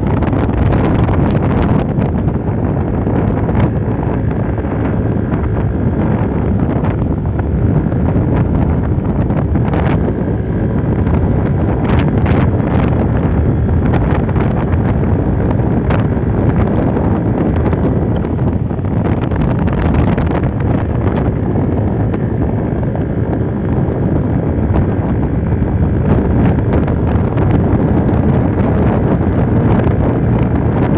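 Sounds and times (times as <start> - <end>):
scooter engine running: 0.0 - 30.9
wind buffeting microphone: 0.0 - 30.9.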